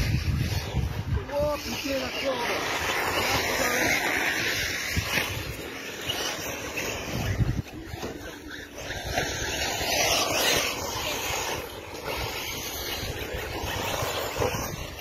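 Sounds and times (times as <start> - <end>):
radio-controlled car motor: 0.0 - 15.0
wind noise on microphone: 0.0 - 15.0.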